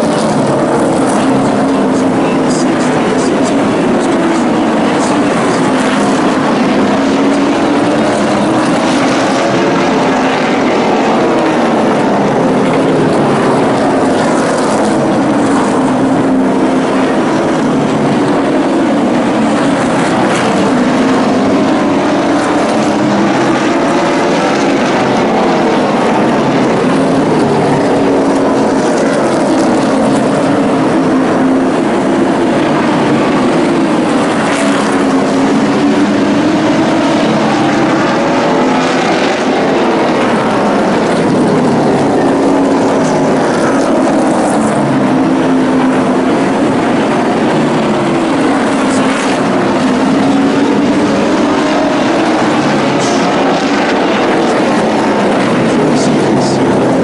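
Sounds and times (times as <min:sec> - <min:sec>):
race truck engines: 0:00.0 - 0:57.0.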